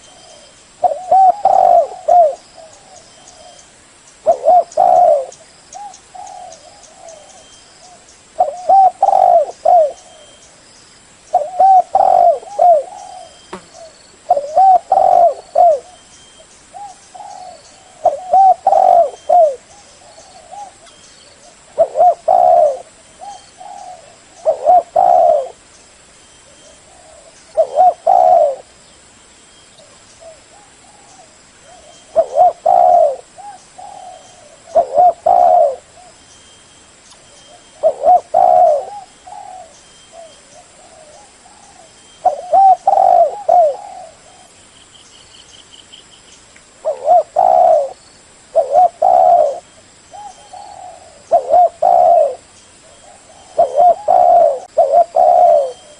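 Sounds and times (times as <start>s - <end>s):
dove cooing: 0.0s - 3.6s, 4.2s - 10.5s, 11.3s - 16.0s, 16.7s - 25.6s, 26.6s - 28.7s, 29.8s - 36.2s, 37.5s - 44.6s, 46.8s - 55.9s.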